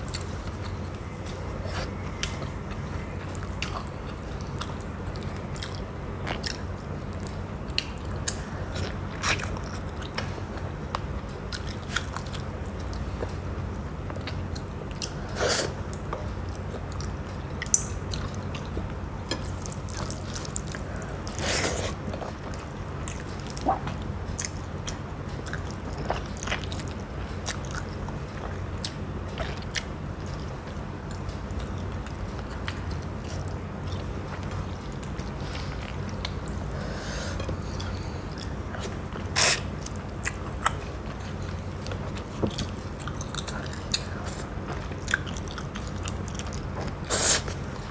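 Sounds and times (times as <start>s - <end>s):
chewing and crunching: 0.0s - 47.9s
steady low hum: 0.0s - 47.9s.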